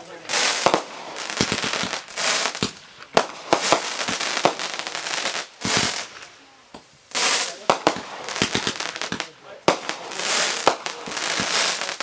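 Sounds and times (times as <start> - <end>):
fireworks bursting: 0.0 - 12.0
hissing crackling firework burst: 0.0 - 12.0.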